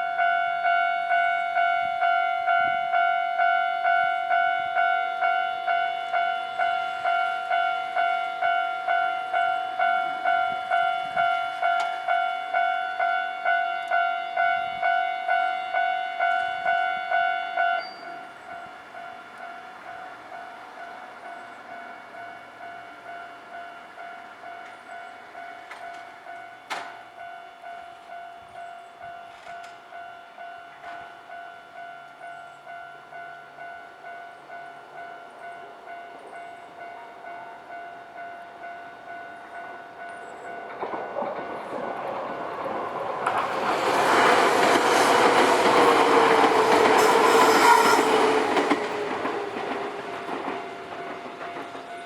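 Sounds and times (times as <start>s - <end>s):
level-crossing warning bell ringing: 0.0s - 52.0s.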